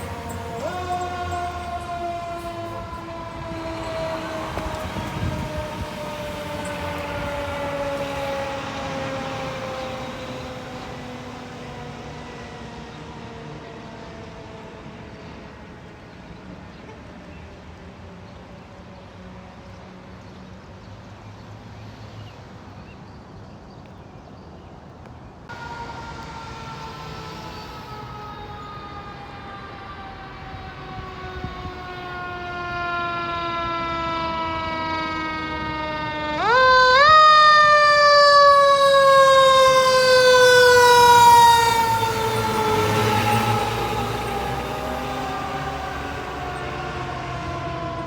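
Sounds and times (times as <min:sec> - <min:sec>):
fire truck siren: 0:00.0 - 0:19.7, 0:25.5 - 0:48.0.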